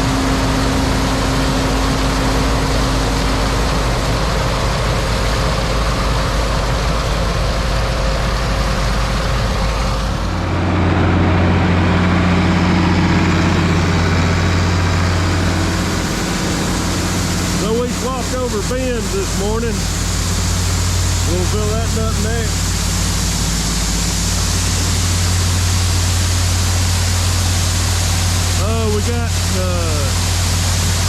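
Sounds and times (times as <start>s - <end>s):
truck engine running: 0.0s - 31.0s.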